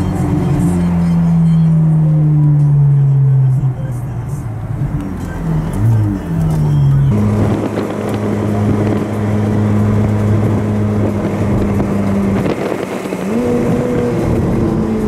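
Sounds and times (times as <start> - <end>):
car engine drone from inside cabin: 0.0 - 15.0.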